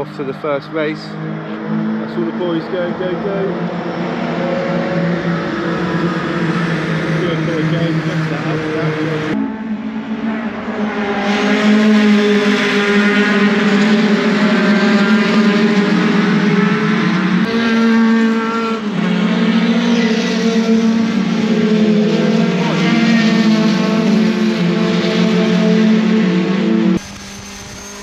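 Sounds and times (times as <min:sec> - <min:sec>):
truck engines at high revs: 0:00.0 - 0:09.4, 0:10.0 - 0:28.0.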